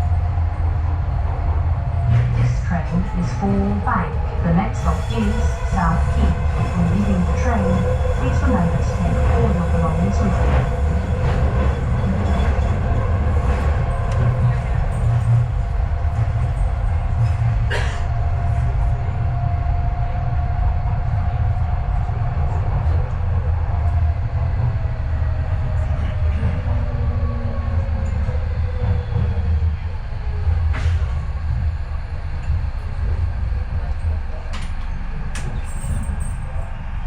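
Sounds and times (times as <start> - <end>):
train rumble and motor whine: 0.0 - 37.0.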